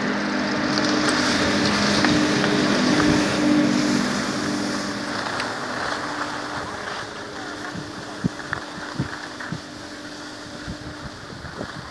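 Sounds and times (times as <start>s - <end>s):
skis sliding over snow: 0.0s - 11.9s
wind on microphone: 0.0s - 11.9s.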